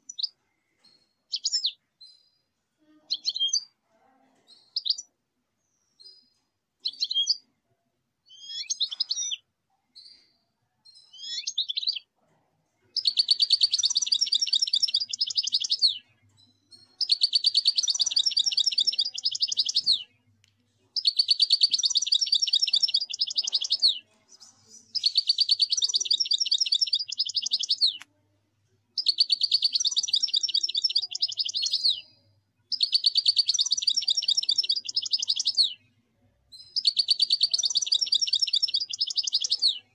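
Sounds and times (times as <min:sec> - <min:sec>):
bird twittering song: 0:00.0 - 0:02.5, 0:03.1 - 0:03.7, 0:04.5 - 0:07.5, 0:08.3 - 0:12.1, 0:12.8 - 0:28.1, 0:28.9 - 0:35.9, 0:36.5 - 0:39.9
bird chirps: 0:00.0 - 0:03.8, 0:04.4 - 0:07.5, 0:08.2 - 0:12.2, 0:12.8 - 0:28.3, 0:28.9 - 0:39.9.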